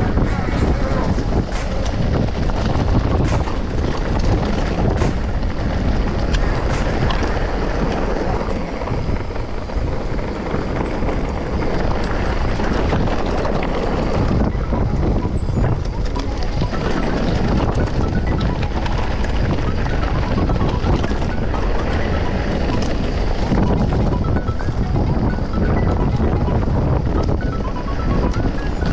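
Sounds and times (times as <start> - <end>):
bike rattling and knocking: 0.0 - 24.4
tyres rumbling on rocky trail: 0.0 - 28.9
wind buffeting microphone: 0.0 - 28.9.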